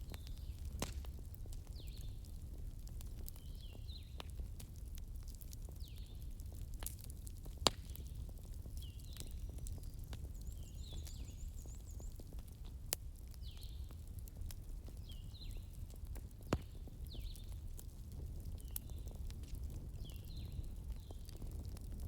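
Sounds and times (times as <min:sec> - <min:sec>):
wood fire crackling: 0:00.0 - 0:22.0
sharp fire pops: 0:00.1 - 0:04.5, 0:05.3 - 0:12.0, 0:14.9 - 0:22.0.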